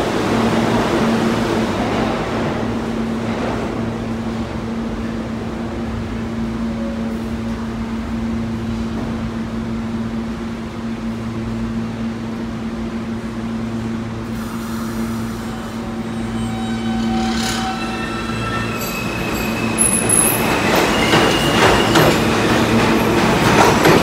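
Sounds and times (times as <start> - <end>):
subway train humming: 0.0 - 24.0.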